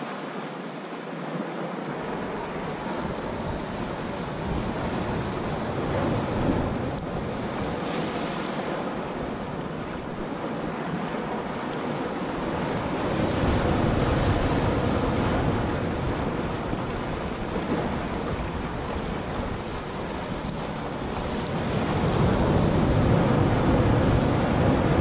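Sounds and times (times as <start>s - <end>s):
ocean surf breaking on rocks: 0.0s - 25.0s.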